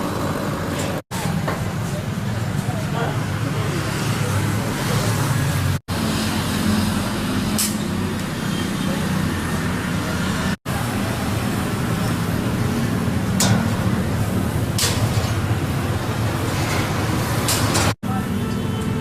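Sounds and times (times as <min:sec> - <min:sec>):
street traffic engine rumble: 0:00.0 - 0:19.0.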